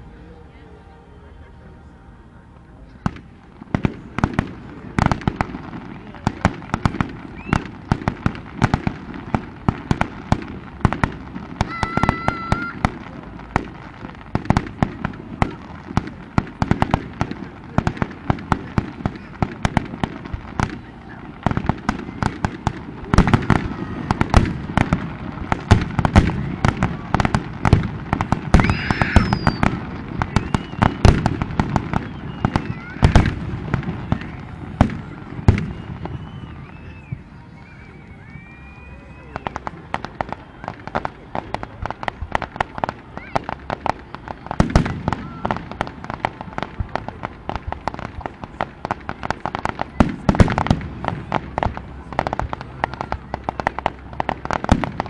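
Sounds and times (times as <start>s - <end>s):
fireworks bangs: 2.9s - 55.0s
fireworks crackling and popping: 2.9s - 55.0s.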